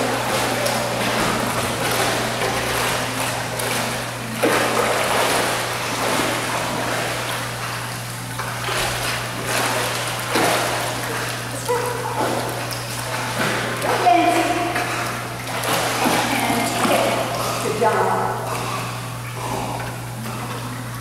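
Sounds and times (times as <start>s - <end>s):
pool water splashing: 0.0s - 21.0s
steady low hum: 0.0s - 21.0s.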